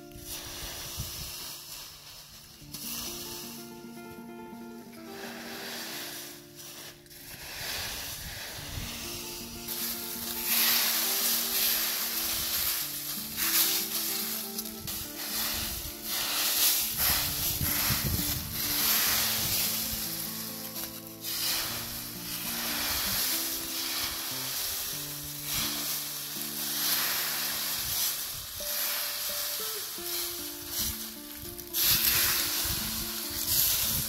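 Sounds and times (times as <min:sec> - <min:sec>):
background music with held notes: 0:00.0 - 0:34.0
broom sweeping dry leaves: 0:00.0 - 0:34.0.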